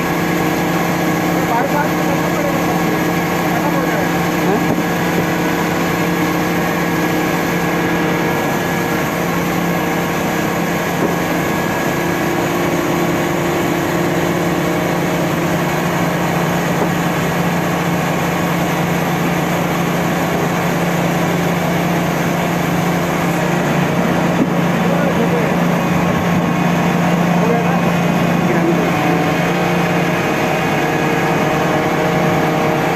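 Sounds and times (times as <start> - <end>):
crane engine humming: 0.0 - 32.9.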